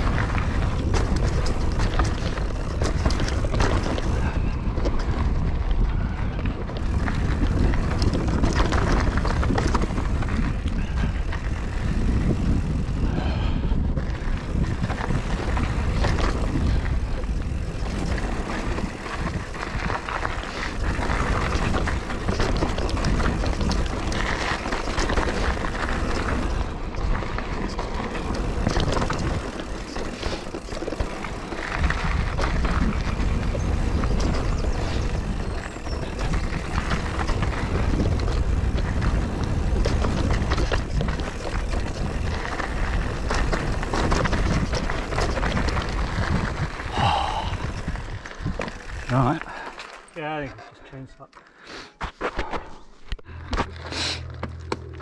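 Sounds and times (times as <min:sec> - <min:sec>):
wind buffeting microphone: 0:00.0 - 0:49.6
bike tyres rumbling on dirt: 0:00.0 - 0:50.4
bike chain clicking and rattling: 0:00.0 - 0:50.5.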